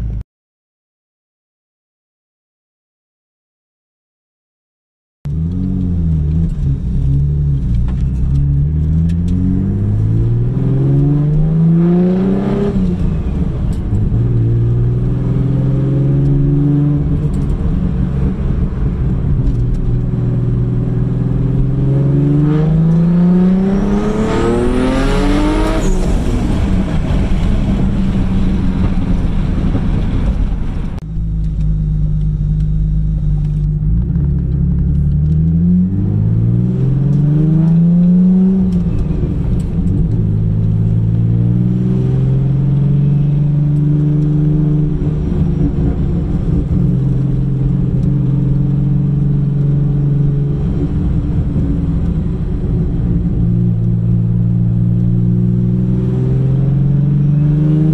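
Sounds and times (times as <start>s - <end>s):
car engine revving: 5.3s - 57.9s.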